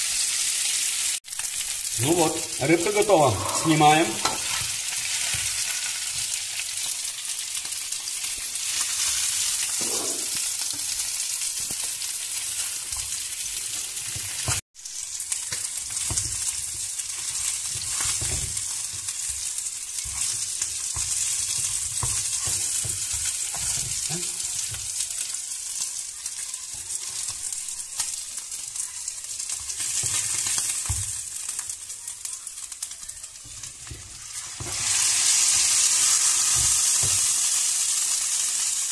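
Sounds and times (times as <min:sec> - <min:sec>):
fish sizzling in hot oil: 0:00.0 - 0:38.9.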